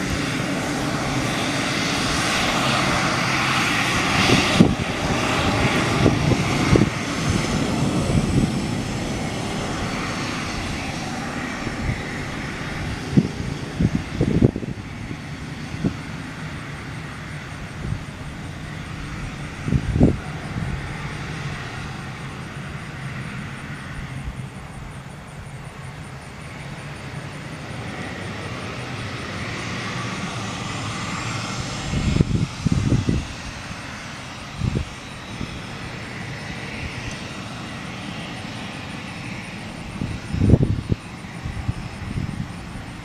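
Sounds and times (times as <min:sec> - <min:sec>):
wind buffeting microphone: 0:00.0 - 0:25.9, 0:26.5 - 0:43.0
jet engines whining: 0:00.0 - 0:43.0.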